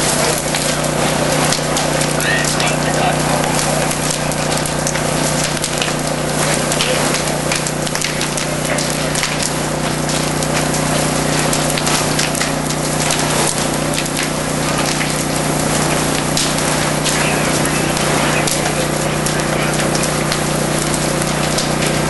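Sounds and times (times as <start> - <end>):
constant low hum: 0.0 - 22.0
fire crackling: 0.0 - 22.0
fire rushing hiss: 0.0 - 22.0.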